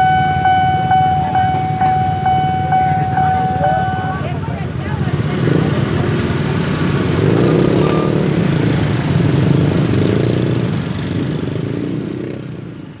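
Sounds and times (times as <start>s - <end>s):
motorcycles and scooters pulling away: 0.0s - 13.0s.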